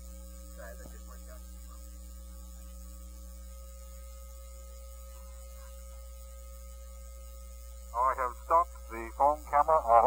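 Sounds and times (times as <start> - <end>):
electrical mains hum: 0.0 - 10.0
faint steady tones: 0.0 - 10.0.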